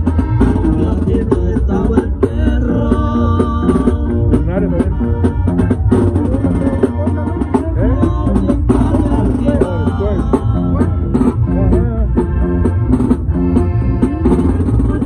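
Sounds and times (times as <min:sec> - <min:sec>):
live band playing loud: 0:00.0 - 0:15.0.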